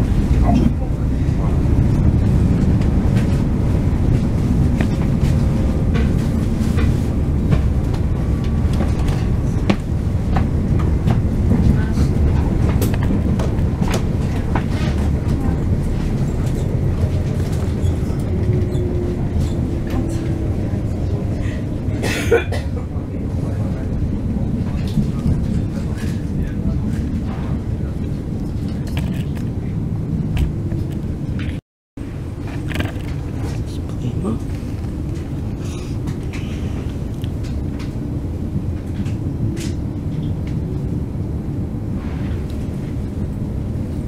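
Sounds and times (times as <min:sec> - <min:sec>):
train rumbling along track: 0:00.0 - 0:44.0.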